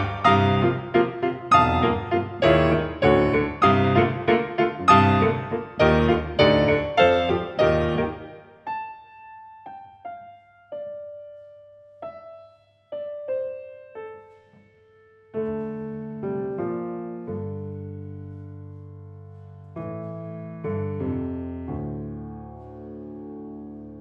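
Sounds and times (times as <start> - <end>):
solo grand piano: 0.0 - 24.0.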